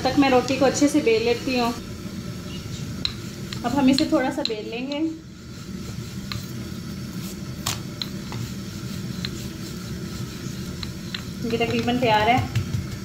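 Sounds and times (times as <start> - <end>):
rolling pin rolling dough: 2.6 - 13.0.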